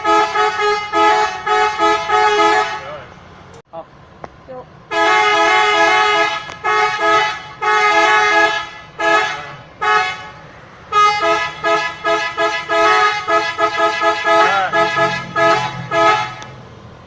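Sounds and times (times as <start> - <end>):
bus horn playing a tune: 0.0 - 3.1, 4.8 - 16.6.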